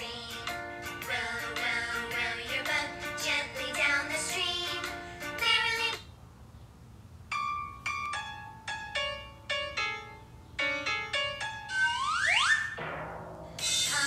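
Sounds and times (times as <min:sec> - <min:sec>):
children's music melody: 0:00.0 - 0:06.1, 0:07.3 - 0:14.0.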